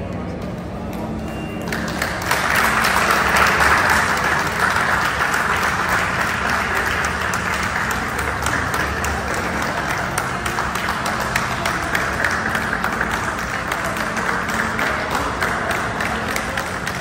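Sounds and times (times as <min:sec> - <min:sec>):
people applauding: 0:00.0 - 0:17.0.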